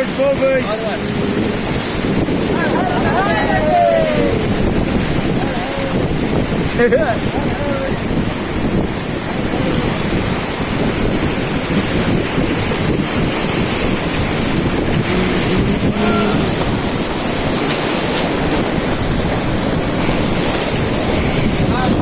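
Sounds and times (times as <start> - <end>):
whitewater rapids rushing: 0.0 - 22.0
wind buffeting microphone: 0.0 - 22.0.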